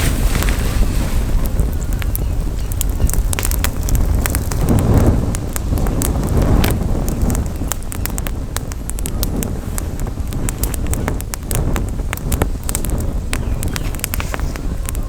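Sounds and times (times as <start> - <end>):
campfire crackling: 0.0 - 15.0
wind rumble on microphone: 0.0 - 15.0.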